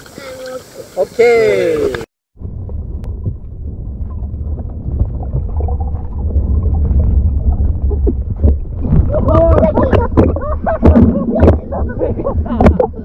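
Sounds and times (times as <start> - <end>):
muffled underwater water rumble: 1.9 - 13.0.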